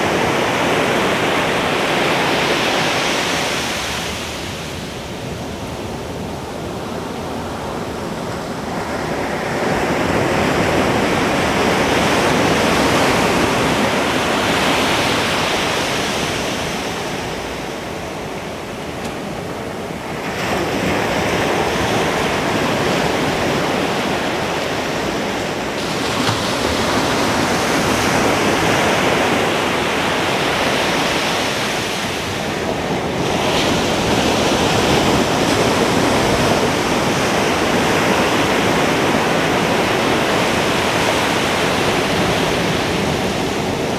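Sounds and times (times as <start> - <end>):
ocean surf breaking on beach: 0.0 - 43.9.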